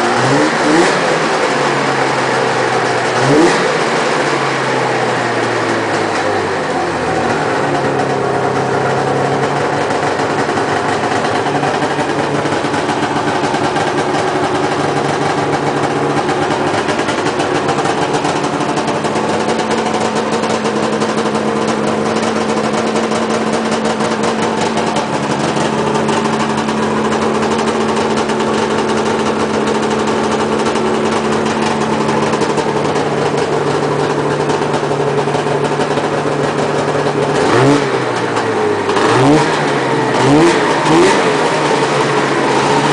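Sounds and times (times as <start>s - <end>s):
snowmobile engine idling: 0.0s - 42.9s.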